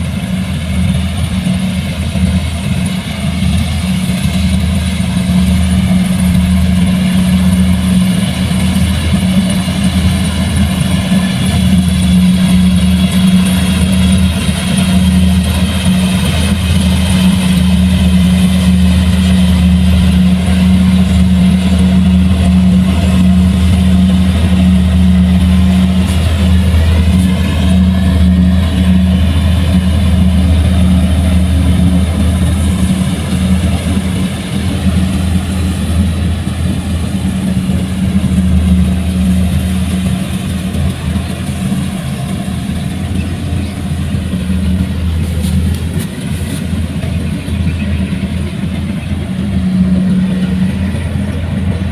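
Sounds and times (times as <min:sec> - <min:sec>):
diesel farm machinery engine: 0:00.0 - 0:51.9.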